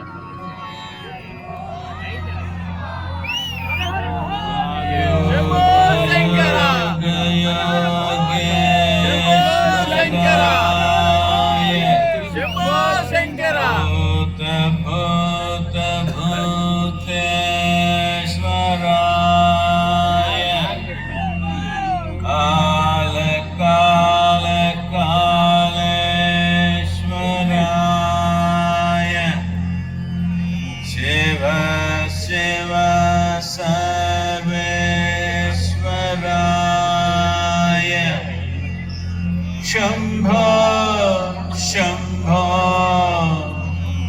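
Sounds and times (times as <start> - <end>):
devotional chant singing: 0.0 - 29.8, 30.4 - 44.0
steady low drone: 0.0 - 44.0.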